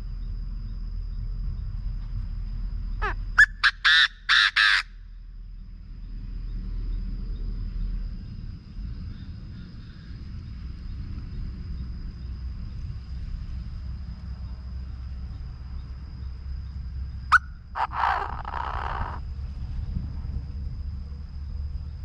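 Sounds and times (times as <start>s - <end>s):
steady low rumble: 0.0s - 3.4s, 4.9s - 22.0s.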